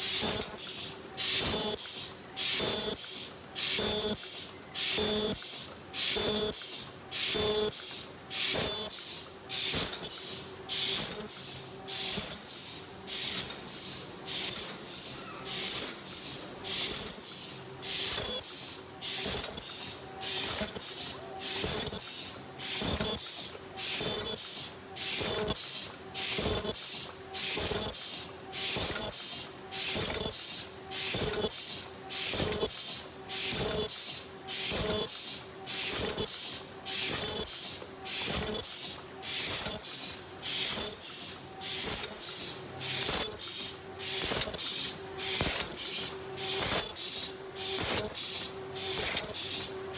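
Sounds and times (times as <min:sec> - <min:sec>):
machine running: 0:00.0 - 0:03.2, 0:03.8 - 0:40.0, 0:40.6 - 0:49.9
forming machine stroke bursts: 0:00.0 - 0:49.9.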